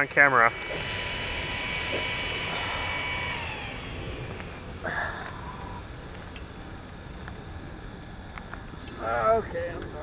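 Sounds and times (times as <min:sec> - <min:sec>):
mechanical whine over low rumble: 0:00.0 - 0:10.0.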